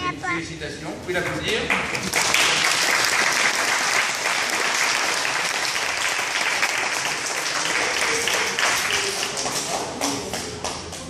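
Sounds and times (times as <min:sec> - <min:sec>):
children clapping: 0:01.5 - 0:11.0.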